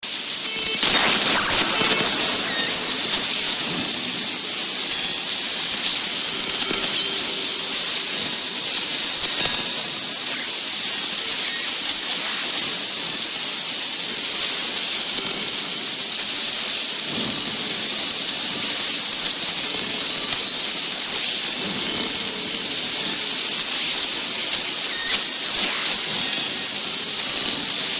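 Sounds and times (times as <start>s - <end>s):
tv static hiss: 0.0s - 27.9s.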